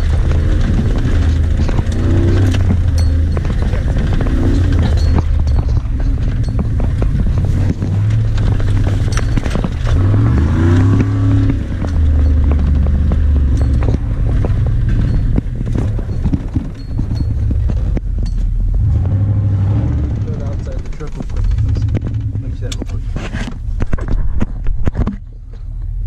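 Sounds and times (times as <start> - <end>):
cab knocks and rattles: 0.0 - 26.0
truck engine: 0.0 - 26.0.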